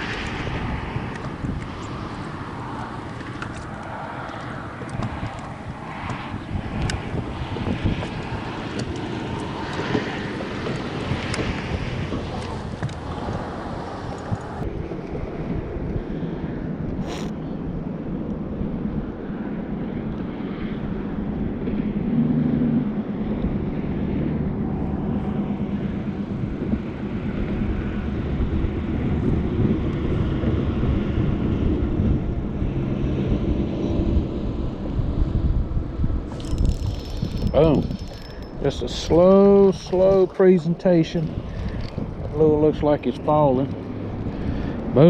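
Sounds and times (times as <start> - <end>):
low motor drone: 0.0 - 45.0
wind on microphone: 0.0 - 45.0.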